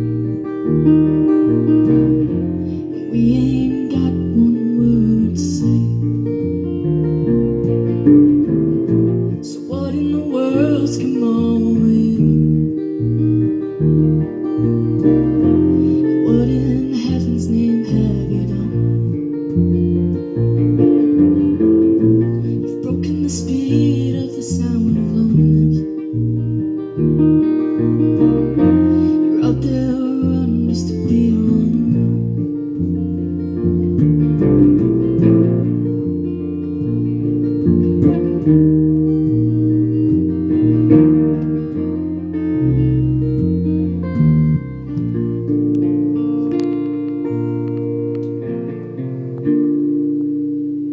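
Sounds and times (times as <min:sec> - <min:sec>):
bass line: 0:00.0 - 0:50.9
guitar strumming: 0:00.0 - 0:50.9.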